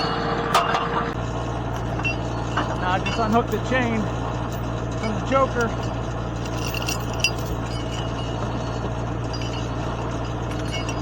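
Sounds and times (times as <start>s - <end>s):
tractor engine idling: 0.3s - 11.0s
metal chain clinking: 1.7s - 11.0s.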